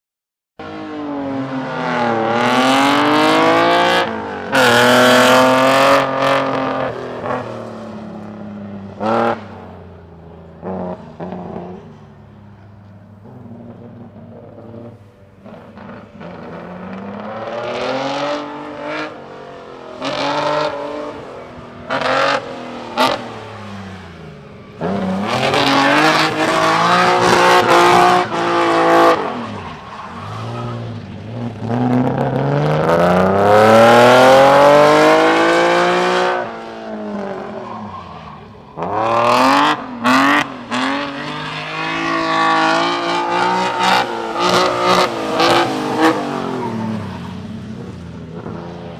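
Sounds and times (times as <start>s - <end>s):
car engine revving: 0.7s - 48.9s.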